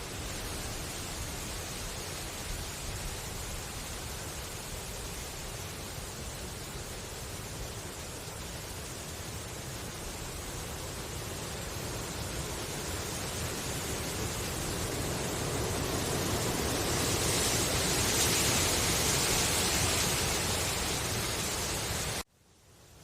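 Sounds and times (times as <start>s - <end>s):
wind rustling bamboo leaves: 0.0s - 23.0s.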